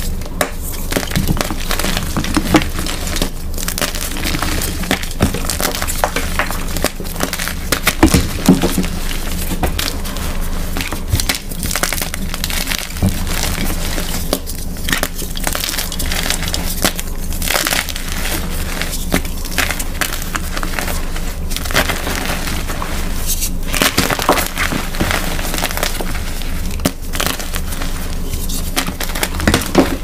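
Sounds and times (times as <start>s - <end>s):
chalk blocks crunching: 0.0s - 30.0s.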